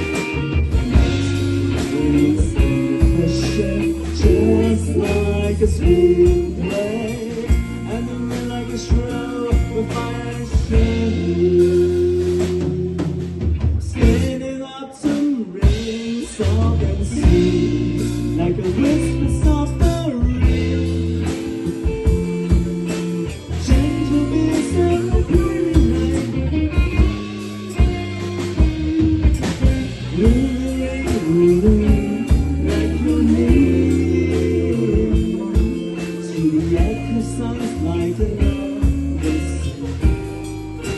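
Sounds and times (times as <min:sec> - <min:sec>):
bass guitar: 0:00.0 - 0:40.9
drum kit: 0:00.0 - 0:40.9
guitar: 0:00.0 - 0:40.9
person singing: 0:00.0 - 0:40.9.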